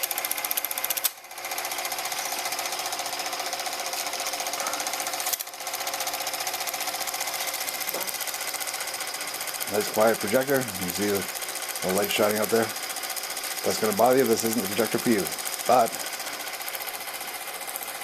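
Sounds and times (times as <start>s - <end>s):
film projector clattering: 0.0s - 18.0s.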